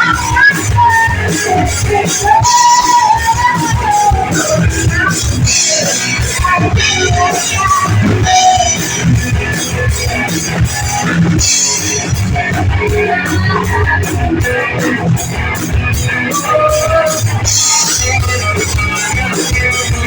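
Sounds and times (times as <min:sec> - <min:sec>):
bass guitar: 0:00.0 - 0:20.0
drum kit with cymbals: 0:00.0 - 0:20.0
electric guitar: 0:00.0 - 0:20.0.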